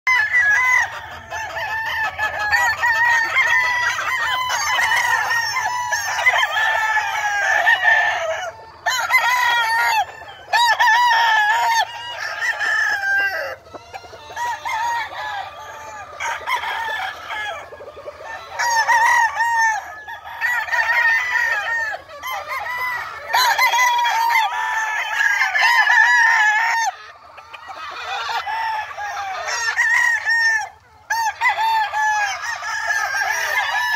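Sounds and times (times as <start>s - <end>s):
roosters crowing: 0.1s - 33.9s.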